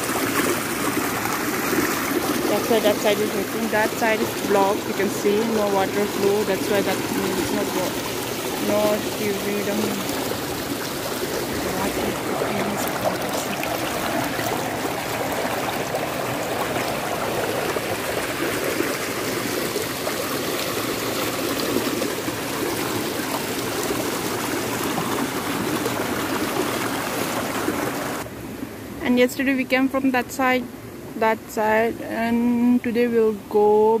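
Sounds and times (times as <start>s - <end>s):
water rushing over stones: 0.0s - 28.3s.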